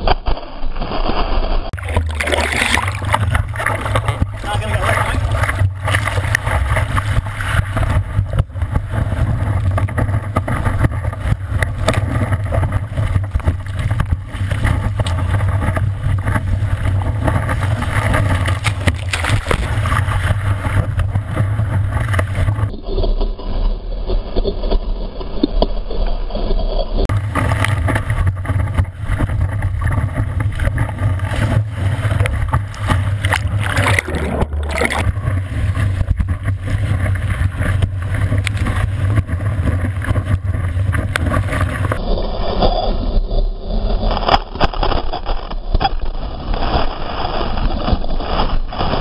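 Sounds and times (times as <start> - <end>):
constant low rumble: 0.0 - 49.0
water and wind rushing: 0.0 - 49.0.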